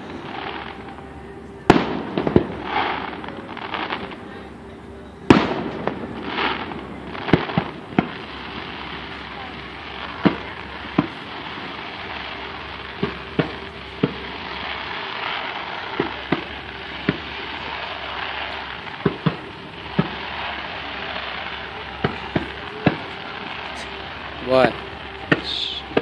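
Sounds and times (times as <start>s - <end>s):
fireworks bursting: 0.0s - 26.0s
steady background hiss: 0.0s - 26.0s.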